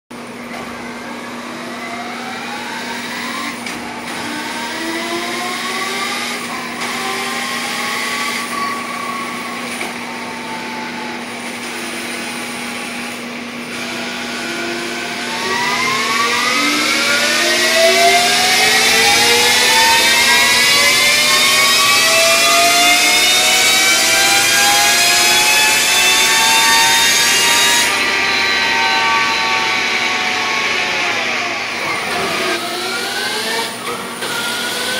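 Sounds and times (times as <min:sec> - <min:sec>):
electric motor whining: 0:01.4 - 0:34.9.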